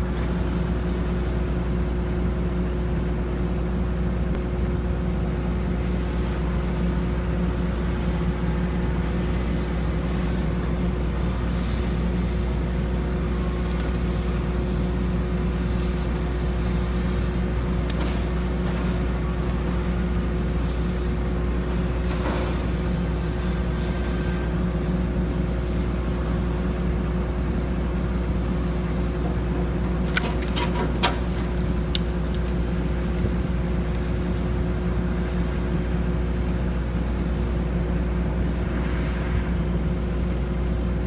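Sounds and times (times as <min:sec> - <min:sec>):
diesel engine droning: 0:00.0 - 0:41.0.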